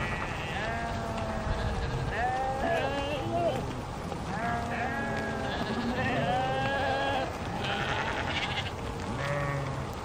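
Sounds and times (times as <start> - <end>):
sheep bleating: 0.0 - 10.0.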